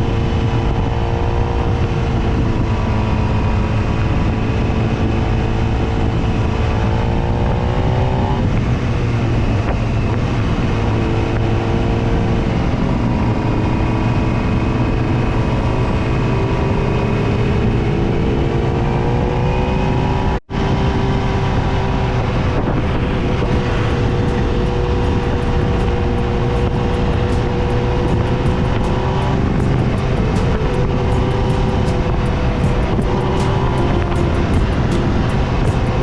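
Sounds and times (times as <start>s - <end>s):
motorcycle engine cruising: 0.0s - 36.0s
road noise: 0.0s - 36.0s
rushing wind: 0.0s - 36.0s.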